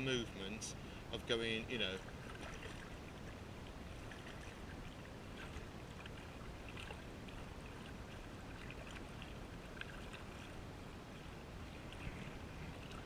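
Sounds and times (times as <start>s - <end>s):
steady low rumble: 0.0s - 13.0s
paddle splashing in water: 1.8s - 13.0s.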